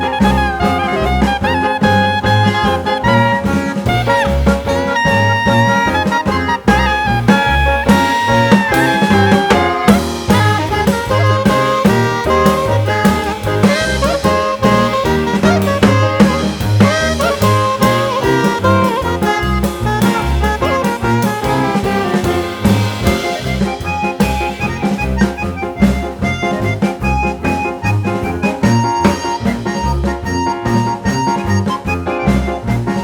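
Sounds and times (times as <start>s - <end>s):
upbeat jazzy instrumental: 0.0s - 33.0s.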